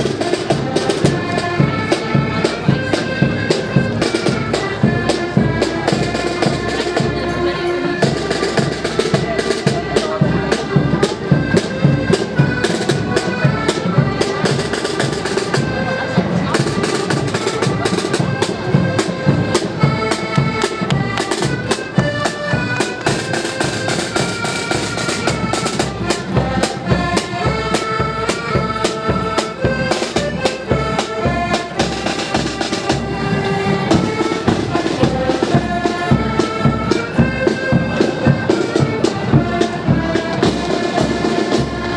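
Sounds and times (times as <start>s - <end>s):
accordions playing a march: 0.0s - 41.9s
side drums: 0.0s - 41.9s.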